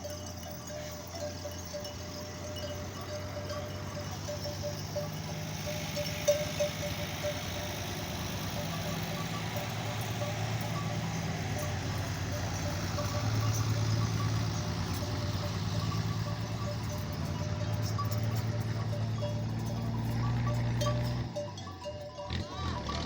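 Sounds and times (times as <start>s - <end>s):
camel bells clinking: 0.0s - 23.0s
low vehicle engine hum: 0.0s - 23.0s.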